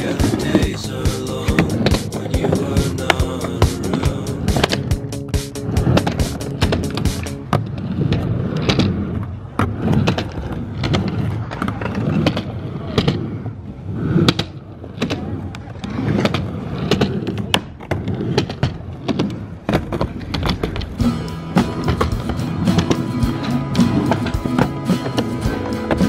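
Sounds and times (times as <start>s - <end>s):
skateboard wheels rumbling: 0.0s - 26.0s
skateboard clacks and thuds: 3.7s - 26.0s.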